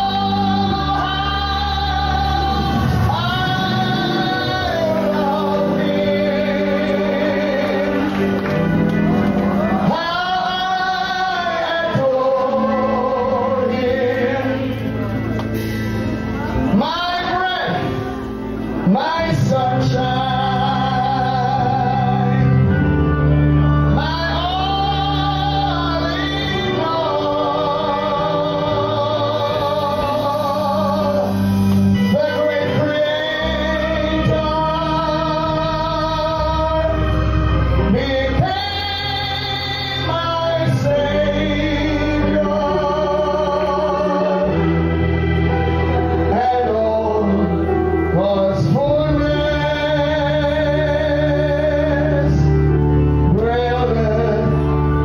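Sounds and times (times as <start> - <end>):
man singing a hymn: 0.0 - 15.6, 16.2 - 55.0
instrumental accompaniment: 0.0 - 55.0
low bass notes: 0.0 - 55.0.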